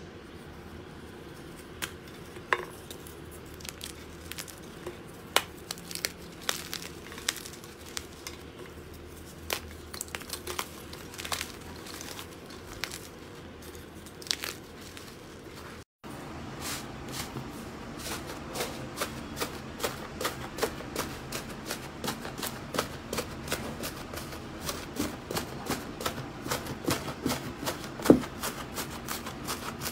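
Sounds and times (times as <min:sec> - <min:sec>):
low background hum: 0:00.0 - 0:29.9.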